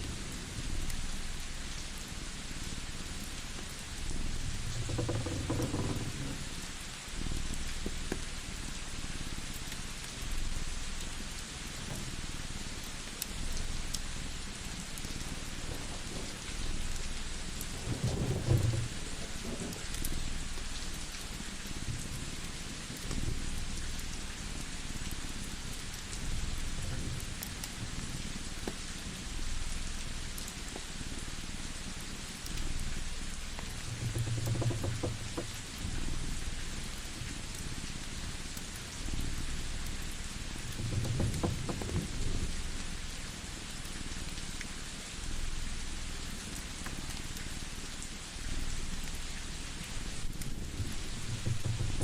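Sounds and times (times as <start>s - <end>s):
rain hissing: 0.0s - 52.0s
wood fire crackling: 0.3s - 44.7s, 48.9s - 52.0s.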